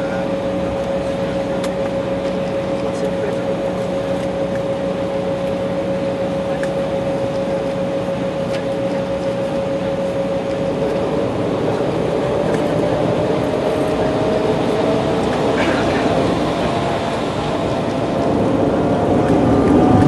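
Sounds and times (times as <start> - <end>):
airliner cabin hum: 0.0 - 20.0
constant engine whine: 0.0 - 20.0.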